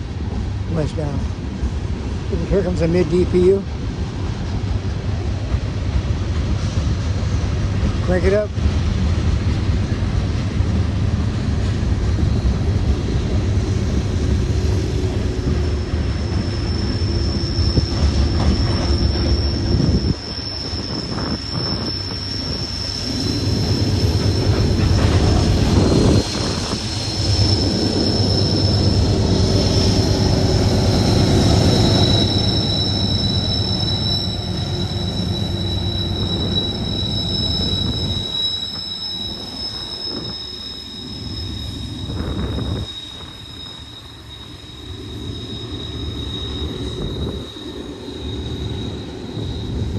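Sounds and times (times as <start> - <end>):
diesel locomotive passing: 0.0 - 49.9
freight train rumbling on rails: 0.0 - 49.9
train wheels squealing: 9.8 - 49.9.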